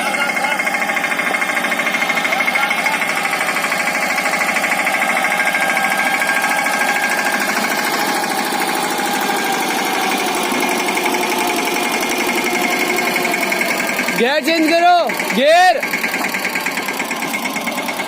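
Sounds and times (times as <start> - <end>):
diesel tractor engine chugging: 0.0 - 18.0.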